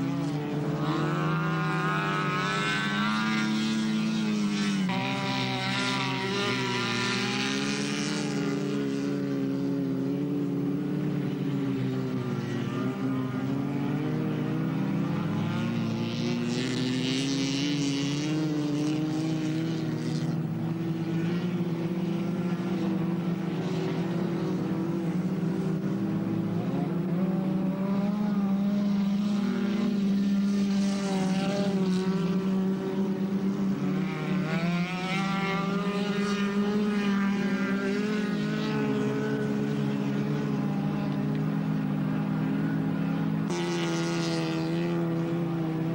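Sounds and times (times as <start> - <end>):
race car engines passing: 0.0 - 45.9.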